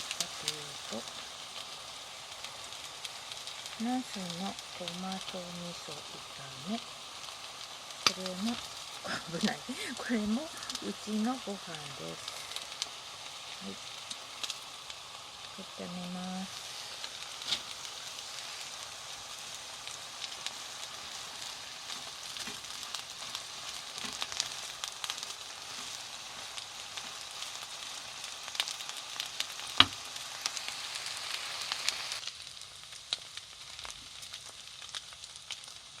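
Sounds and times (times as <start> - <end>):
food sizzling in oiled pan: 0.0 - 36.0.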